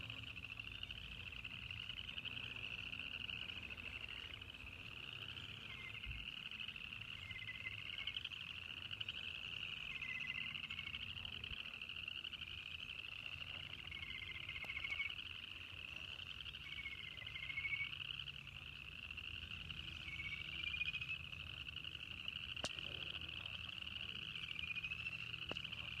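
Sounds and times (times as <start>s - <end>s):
chorus of frogs trilling: 0.0s - 26.0s.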